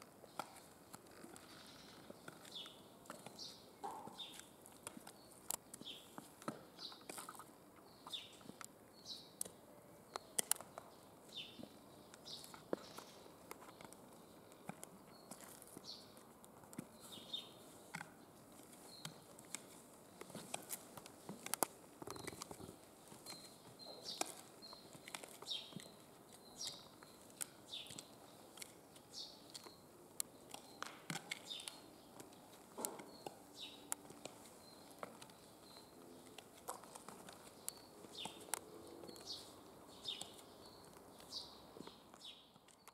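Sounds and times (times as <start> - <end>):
bird chirping: 0.2 - 42.9.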